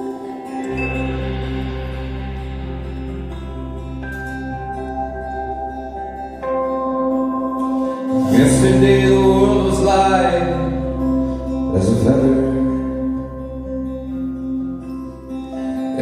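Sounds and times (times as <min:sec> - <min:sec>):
live band holding a chord: 0:00.0 - 0:16.0.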